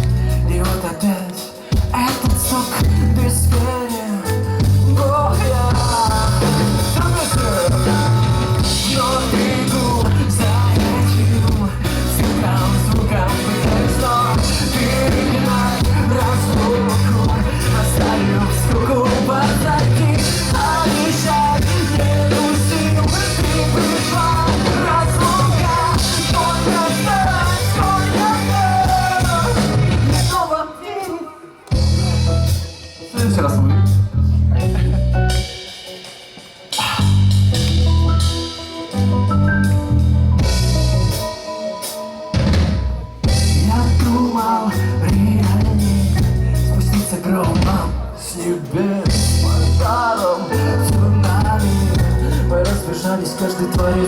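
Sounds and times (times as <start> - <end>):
person singing: 0.0 - 34.9, 36.7 - 37.4, 43.2 - 54.0
rock band playing: 0.0 - 54.0.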